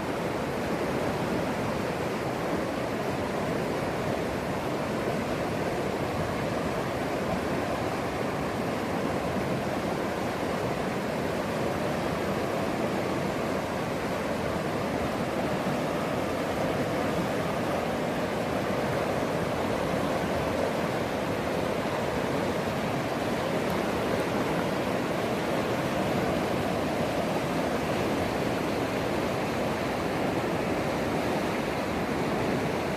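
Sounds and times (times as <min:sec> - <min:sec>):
river in flood rushing: 0:00.0 - 0:32.9.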